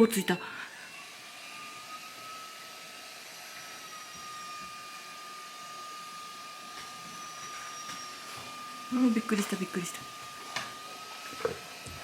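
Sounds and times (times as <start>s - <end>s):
appliance motor whining: 0.0s - 12.0s.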